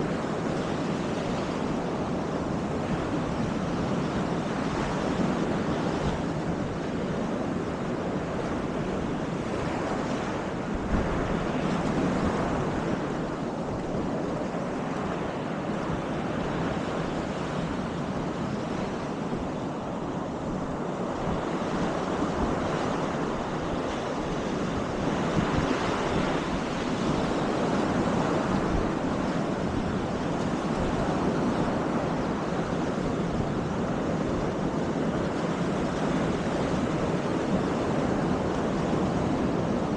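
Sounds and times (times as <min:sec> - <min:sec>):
surf washing onto beach: 0:00.0 - 0:39.9
wind rumbling on microphone: 0:00.0 - 0:39.9.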